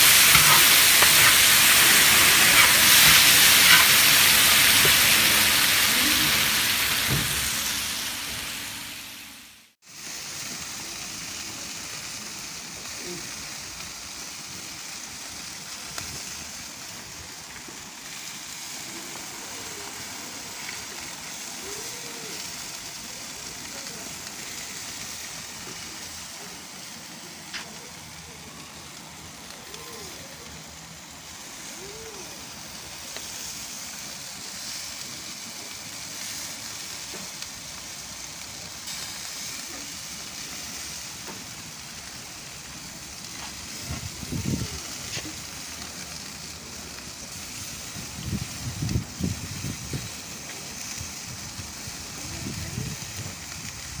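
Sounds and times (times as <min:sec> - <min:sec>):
meat sizzling on grill: 0:00.0 - 0:54.0.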